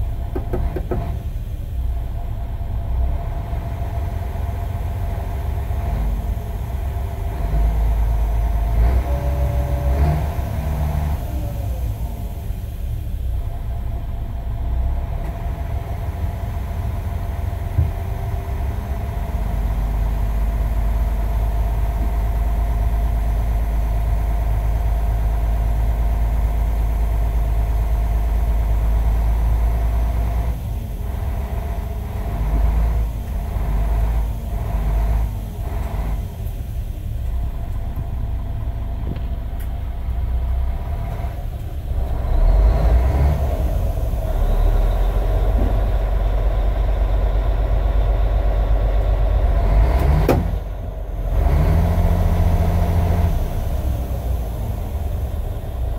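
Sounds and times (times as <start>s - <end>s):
diesel engine revving: 0.0s - 55.9s.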